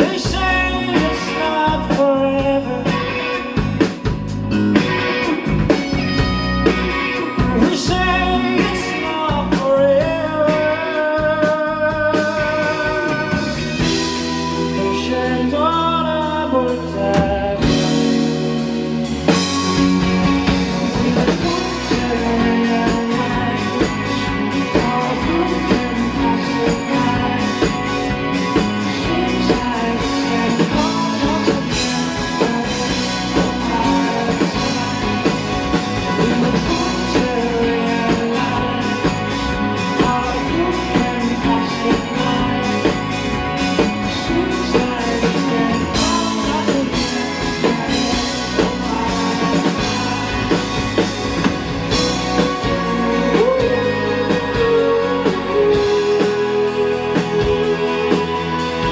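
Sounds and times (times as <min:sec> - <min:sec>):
rock band playing live: 0:00.0 - 0:58.9.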